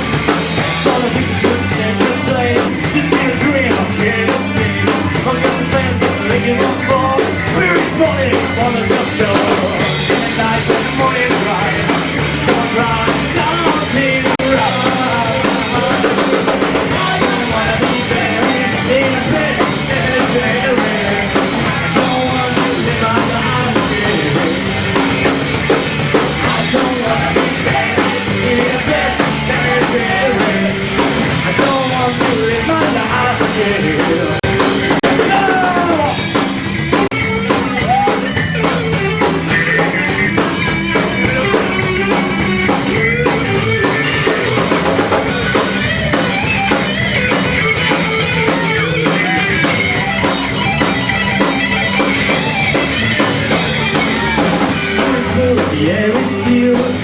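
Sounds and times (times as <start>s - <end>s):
drum kit: 0.0s - 57.0s
rock band playing live: 0.0s - 57.0s.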